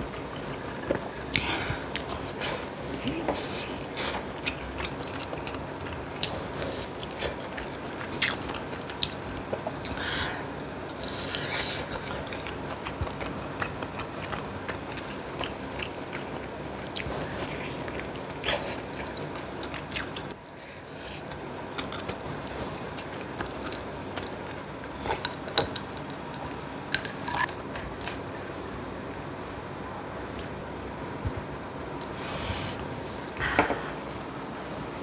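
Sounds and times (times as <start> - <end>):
person chewing food: 0.0 - 29.2.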